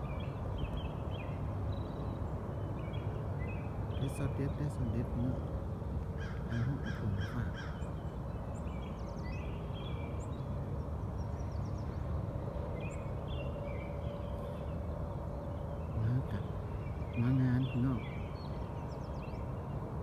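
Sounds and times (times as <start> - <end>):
birds chirping and trilling: 0.0 - 20.0
low outdoor rumble: 0.0 - 20.0.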